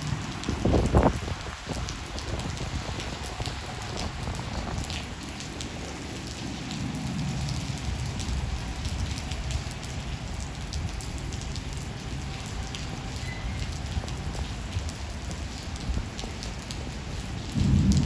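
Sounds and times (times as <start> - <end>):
low thunder rumble: 0.0 - 18.0
rain hissing: 0.0 - 18.0
raindrops ticking on hard surface: 0.0 - 18.0.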